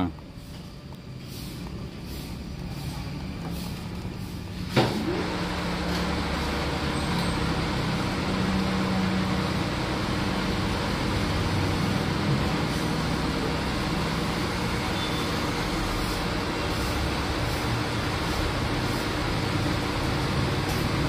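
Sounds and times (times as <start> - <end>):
engine running steadily: 0.4 - 21.0.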